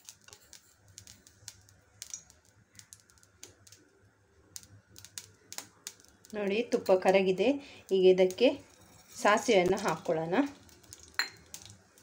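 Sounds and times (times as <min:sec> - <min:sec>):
ghee crackling in a pan: 0:00.0 - 0:12.0.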